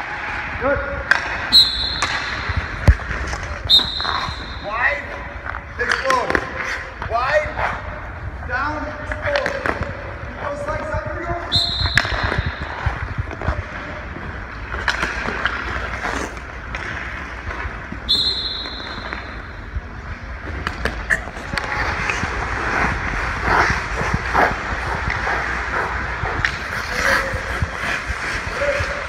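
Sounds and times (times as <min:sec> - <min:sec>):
skate blades scraping ice: 0:00.0 - 0:08.0, 0:08.8 - 0:29.0
sticks and pucks clacking: 0:01.0 - 0:07.8, 0:08.9 - 0:11.2, 0:11.9 - 0:19.7, 0:20.4 - 0:29.0.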